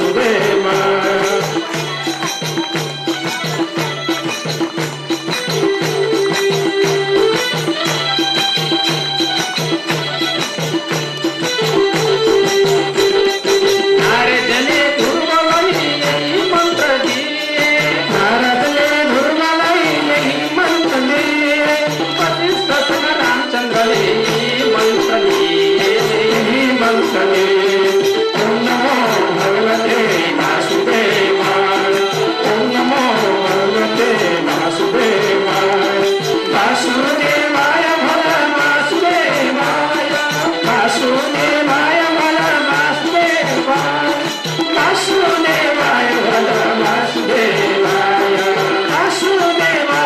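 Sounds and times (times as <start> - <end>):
fast percussion beat: 0.0 - 50.0
person singing devotional music: 0.0 - 50.0.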